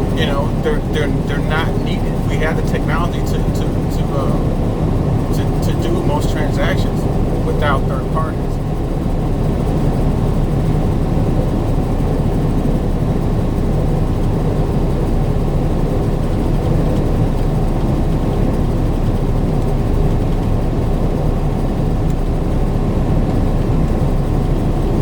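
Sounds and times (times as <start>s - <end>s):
truck rumble from inside cab: 0.0s - 25.0s.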